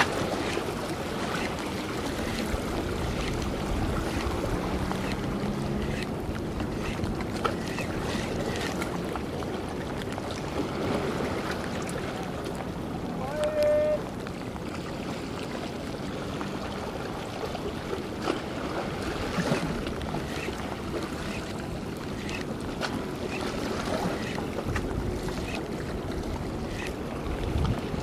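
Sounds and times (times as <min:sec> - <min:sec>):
sea waves: 0:00.0 - 0:28.0
wind: 0:00.0 - 0:28.0.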